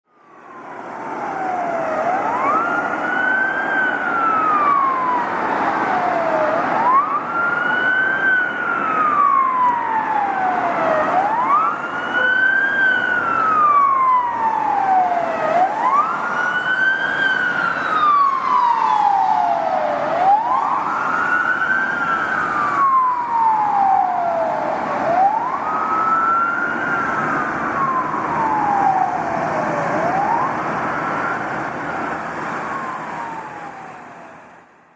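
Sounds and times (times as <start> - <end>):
police siren wailing: 0.1 - 34.6.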